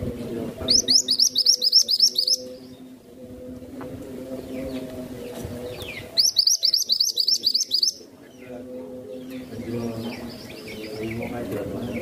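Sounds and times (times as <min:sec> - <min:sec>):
bird chirping: 0:00.0 - 0:03.1, 0:04.3 - 0:12.0.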